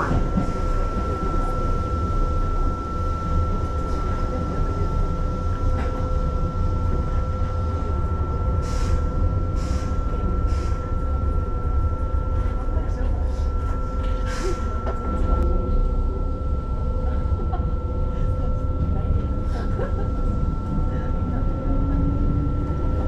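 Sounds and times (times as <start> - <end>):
electric train rumble: 0.0 - 23.0
steady high tone: 0.0 - 23.0.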